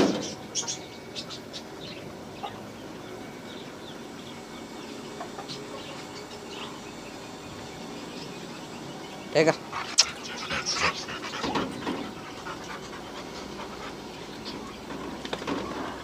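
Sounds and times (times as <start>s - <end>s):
chickens calling: 0.0s - 16.0s
low background noise: 0.0s - 16.0s.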